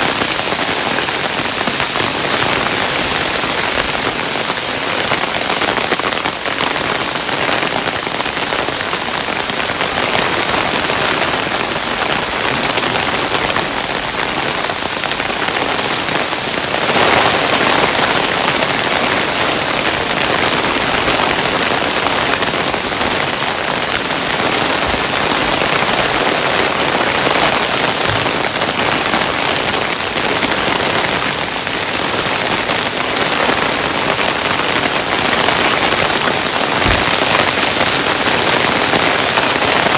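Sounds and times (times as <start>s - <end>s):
hailstones pattering: 0.0s - 39.9s.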